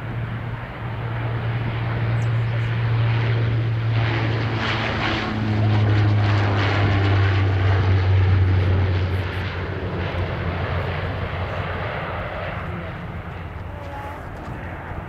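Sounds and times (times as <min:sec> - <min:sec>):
turboprop aircraft taking off: 0:00.0 - 0:15.0.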